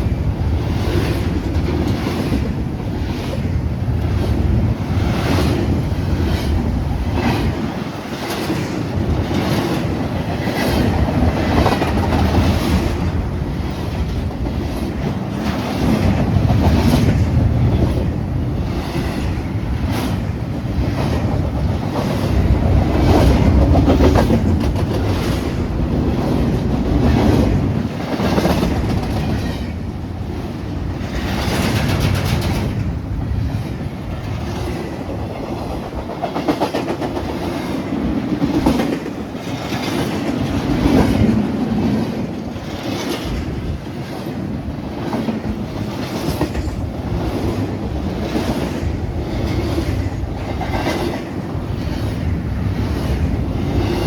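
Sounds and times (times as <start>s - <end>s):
train rumbling past: 0.0s - 54.0s
wheels clacking over rail joints: 0.0s - 54.0s.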